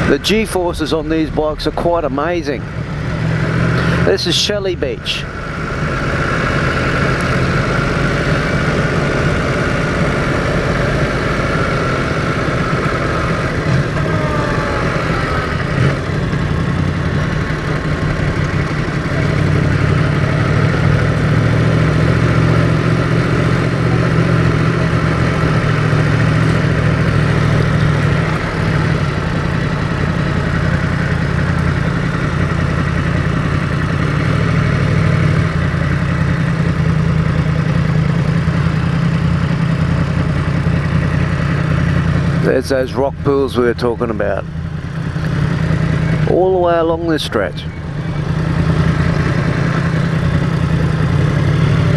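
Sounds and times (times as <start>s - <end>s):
motorcycle engine at low revs: 0.0s - 51.9s.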